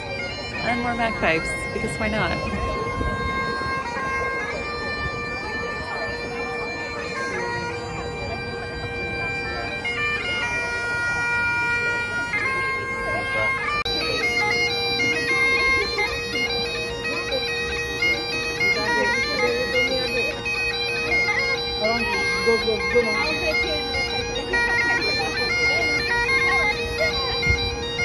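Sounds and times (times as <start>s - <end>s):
bagpipe playing a tune: 0.0s - 28.0s.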